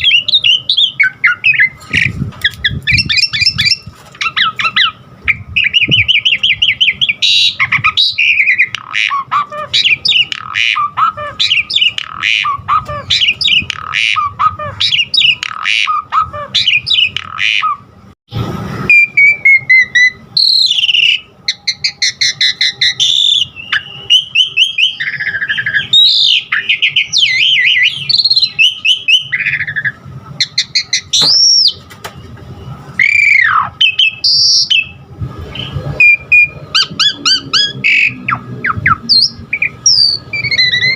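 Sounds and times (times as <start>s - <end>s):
starling singing: 0.0s - 17.9s, 18.9s - 31.8s, 33.0s - 40.9s.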